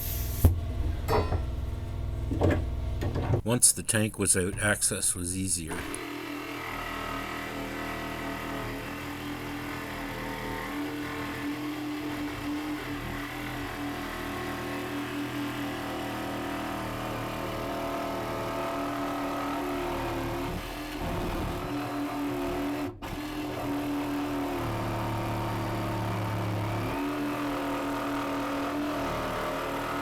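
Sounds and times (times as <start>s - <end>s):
power tool motor humming: 6.0s - 30.0s.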